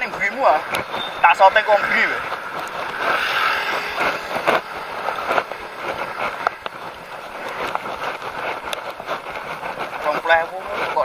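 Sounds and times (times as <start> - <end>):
bicycle tyres rolling on asphalt: 0.0 - 11.0
bike clicks and rattles: 0.0 - 11.0
wind buffeting microphone: 0.0 - 11.0.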